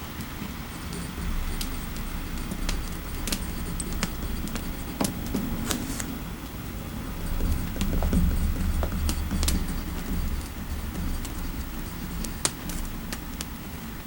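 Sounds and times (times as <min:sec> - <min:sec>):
low rumble of fire: 0:00.3 - 0:14.0.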